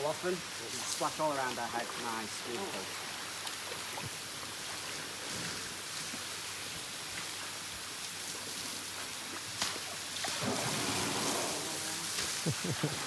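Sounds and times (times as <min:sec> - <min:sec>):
water splashing and pattering: 0:00.0 - 0:13.0.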